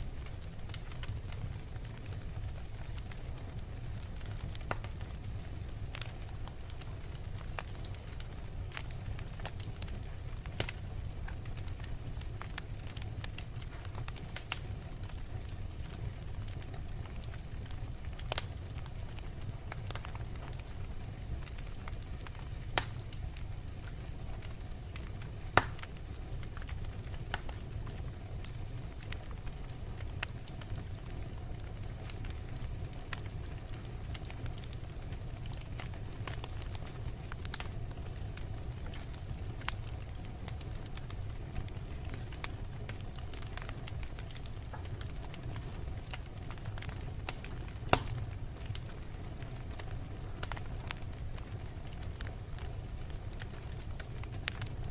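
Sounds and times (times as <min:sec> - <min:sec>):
logs burning in a fireplace: 0:00.0 - 0:54.9.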